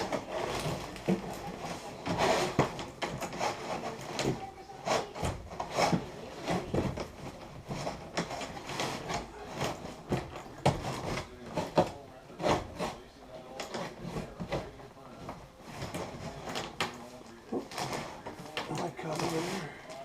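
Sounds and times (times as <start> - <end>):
bag scraping against pod: 0.0 - 14.8, 15.6 - 20.0.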